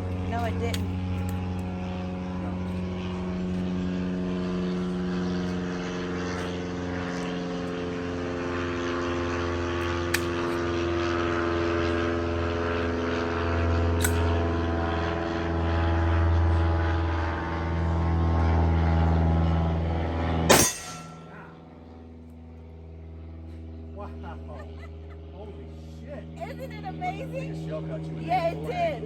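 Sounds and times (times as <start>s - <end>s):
engine drone: 0.0s - 29.0s.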